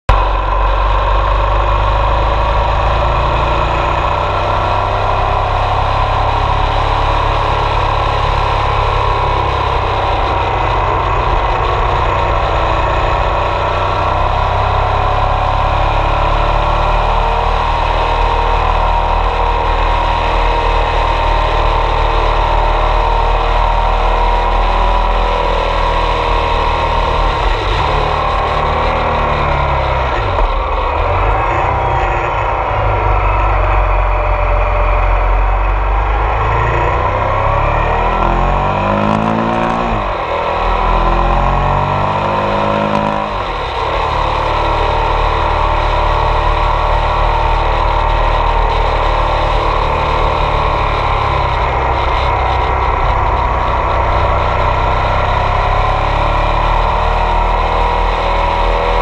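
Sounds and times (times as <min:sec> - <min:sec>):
motorcycle engine running: 0:00.1 - 0:59.0
wind and road noise: 0:00.1 - 0:59.0.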